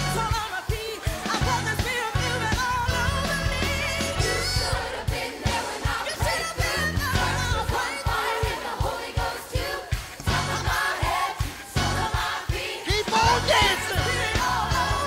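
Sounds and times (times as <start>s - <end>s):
band with steady beat: 0.0s - 15.0s
voices singing: 0.0s - 15.0s.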